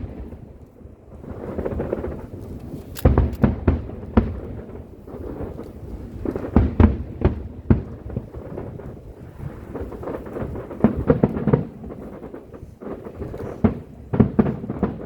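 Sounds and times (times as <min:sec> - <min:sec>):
fireworks booming: 0:00.0 - 0:15.0
fireworks crackle: 0:00.0 - 0:15.0.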